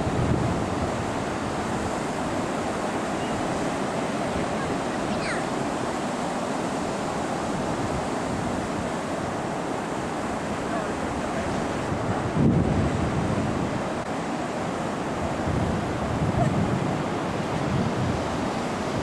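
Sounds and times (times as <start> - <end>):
ocean surf washing onto beach: 0.0 - 19.0
wind on microphone: 0.0 - 19.0.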